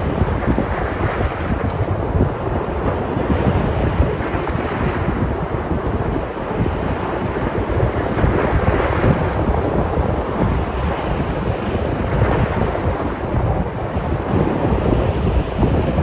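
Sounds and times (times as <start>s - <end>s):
waves breaking: 0.0s - 16.0s
wind rumbling on microphone: 0.0s - 16.0s.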